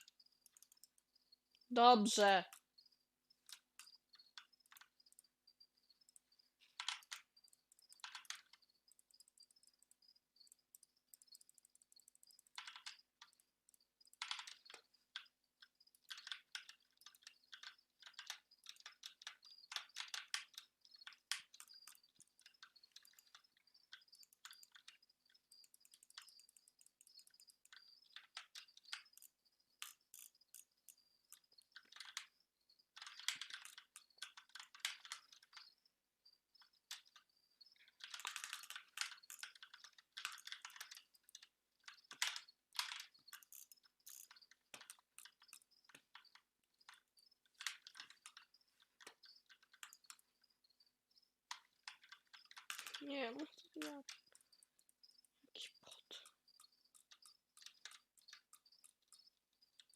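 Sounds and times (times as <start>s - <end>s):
keyboard typing: 0.0s - 2.7s, 3.3s - 35.9s, 36.6s - 50.5s, 51.5s - 59.9s.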